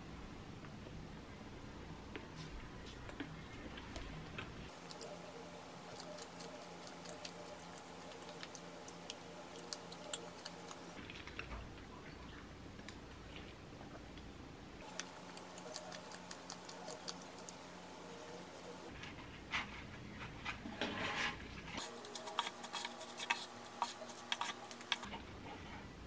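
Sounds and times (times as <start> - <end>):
faint steady hum: 0.0 - 20.3, 21.4 - 26.0.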